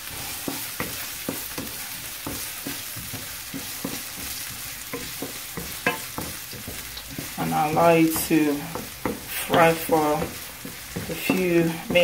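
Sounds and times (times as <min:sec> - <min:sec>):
onions sizzling in oil: 0:00.0 - 0:12.0
wooden spatula scraping a pan: 0:00.0 - 0:12.0.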